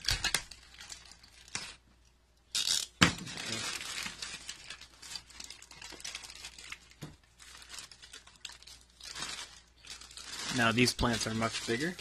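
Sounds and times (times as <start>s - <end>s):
plastic bag crinkling: 0.0s - 1.8s, 2.7s - 12.0s.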